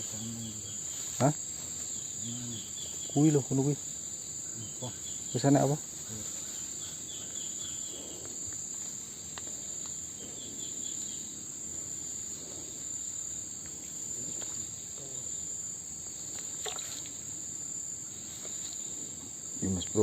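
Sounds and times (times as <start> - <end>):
insect chirp runs: 0.0 - 20.0
insects chorus droning: 0.0 - 20.0.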